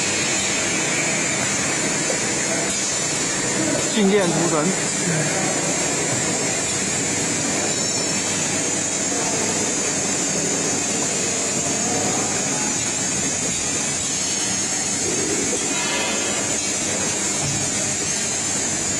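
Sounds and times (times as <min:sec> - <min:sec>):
stamping machine running: 0:00.0 - 0:18.9.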